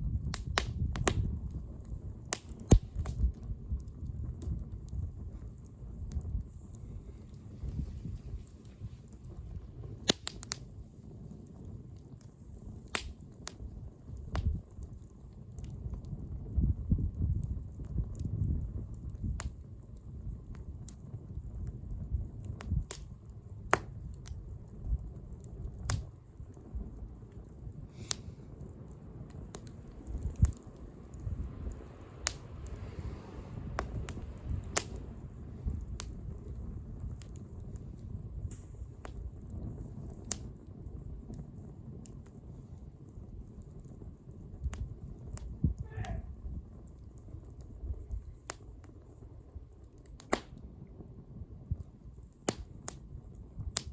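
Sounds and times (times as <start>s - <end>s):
bonfire crackling: 0.0s - 53.9s
low fire rumble: 0.0s - 53.9s
sharp pops from burning wood: 0.0s - 53.9s.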